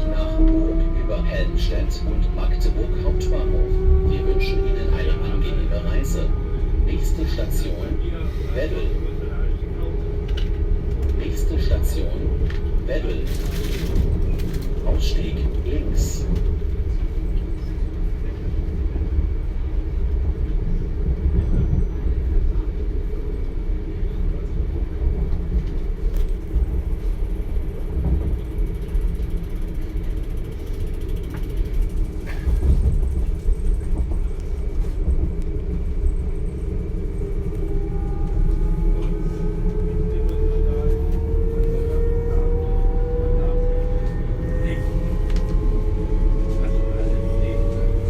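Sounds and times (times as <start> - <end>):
train running low rumble: 0.0 - 48.0.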